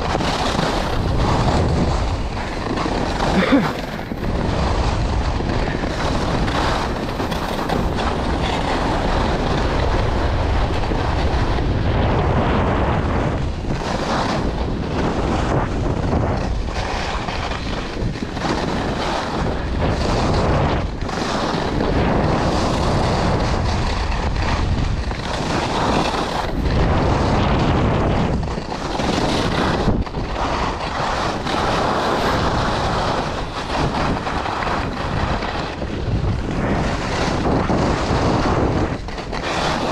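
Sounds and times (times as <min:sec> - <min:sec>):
skis scraping on packed snow: 0:00.0 - 0:39.9
wind buffeting microphone: 0:00.0 - 0:39.9.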